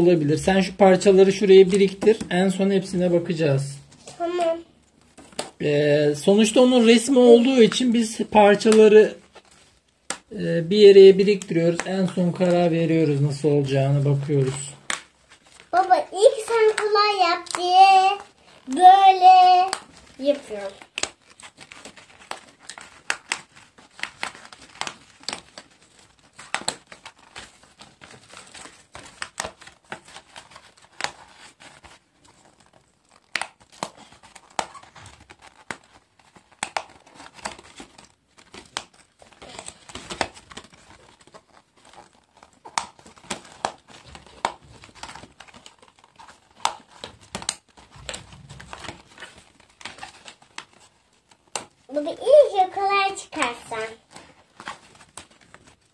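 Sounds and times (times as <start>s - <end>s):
card rustling and tearing: 0.0s - 55.9s
card snapping and crackling: 3.9s - 5.8s, 6.4s - 55.9s.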